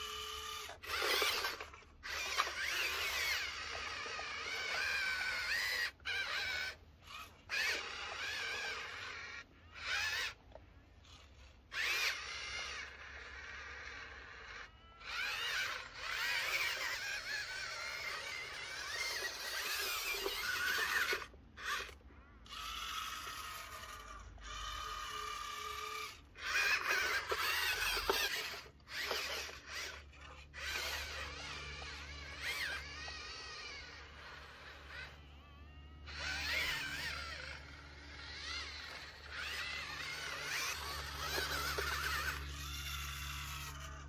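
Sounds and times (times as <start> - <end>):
small electric motors whining: 0.0 - 44.0.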